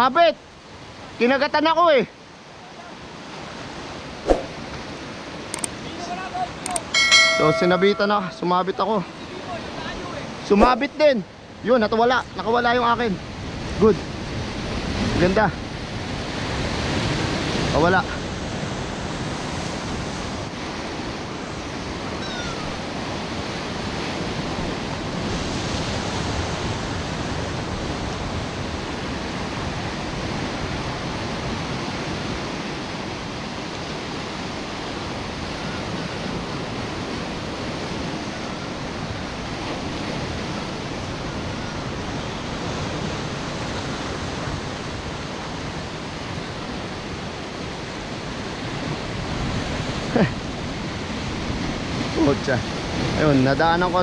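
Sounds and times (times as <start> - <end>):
sea surf washing on shore: 0.2 - 54.0.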